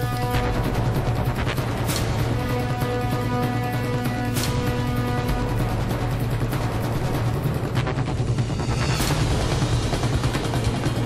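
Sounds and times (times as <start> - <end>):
background music with low drone: 0.0 - 11.0.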